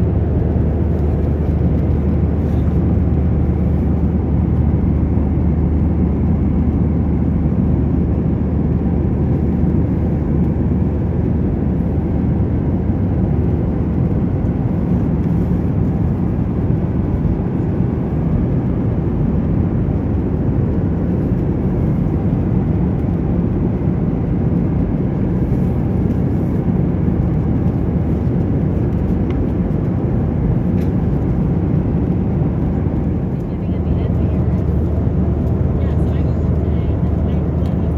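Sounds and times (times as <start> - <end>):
air rushing along fuselage: 0.0 - 37.9
airplane cabin engine hum: 0.0 - 37.9.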